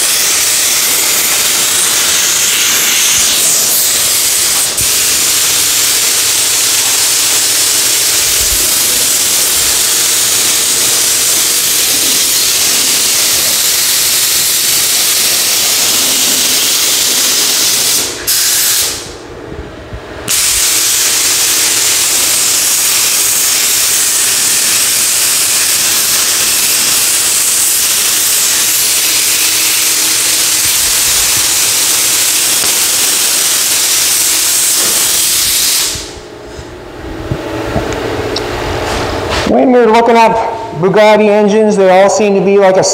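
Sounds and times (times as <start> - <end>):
paint spray gun hissing: 0.0 - 19.0, 20.3 - 36.2.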